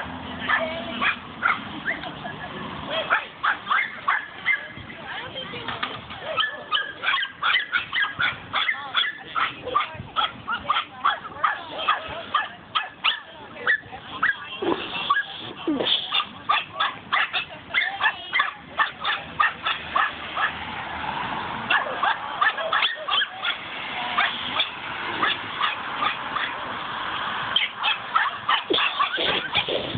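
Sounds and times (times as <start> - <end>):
dogs barking and yipping: 0.4 - 4.8, 6.1 - 20.7, 21.6 - 26.6, 27.5 - 29.9.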